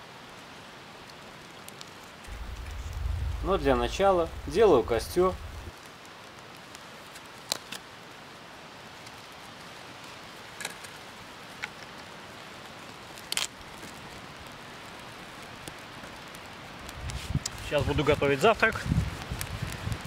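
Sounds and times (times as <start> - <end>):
campfire hissing: 0.0 - 20.0
fire crackling and popping: 1.0 - 20.0.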